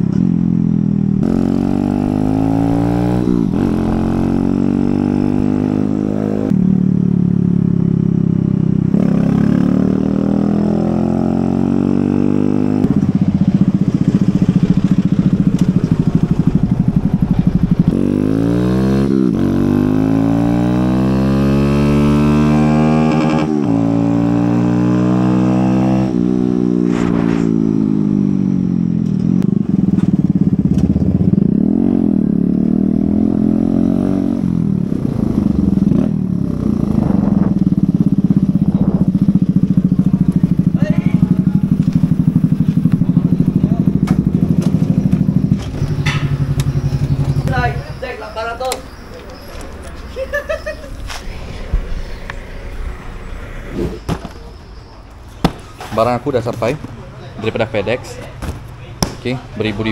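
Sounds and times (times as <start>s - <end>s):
motorcycle engine revving through gears: 0.0s - 54.8s.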